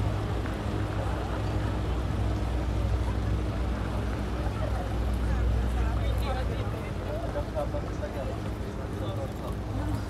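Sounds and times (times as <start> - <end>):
boat engines droning: 0.0 - 10.0
murmur of voices: 0.0 - 10.0.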